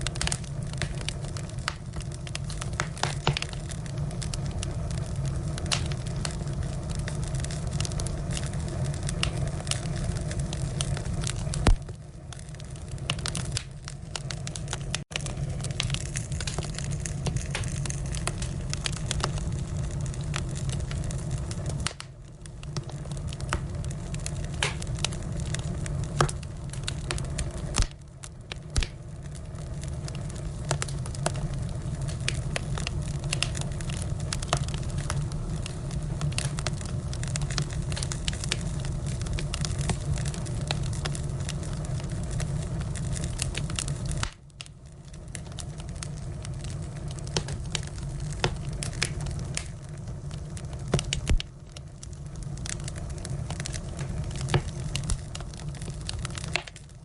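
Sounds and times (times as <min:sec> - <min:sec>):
firewood crackling and popping: 0:00.0 - 0:57.0
steady low rumble: 0:00.0 - 0:57.0.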